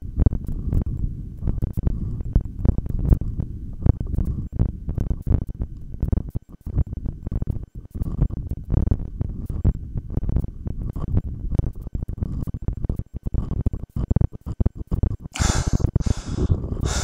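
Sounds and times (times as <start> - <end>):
stomach growls: 0.0 - 17.0.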